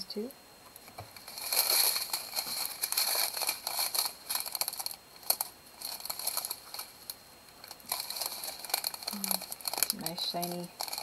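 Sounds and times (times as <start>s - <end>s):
plastic packaging crinkling: 0.8s - 11.0s
small beads clicking: 1.2s - 11.0s.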